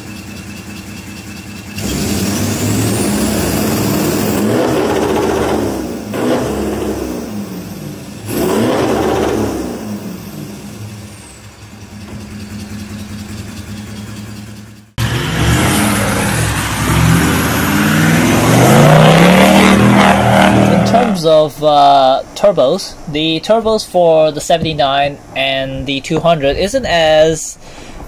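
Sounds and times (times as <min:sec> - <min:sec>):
diesel engine revving: 0:00.0 - 0:24.6.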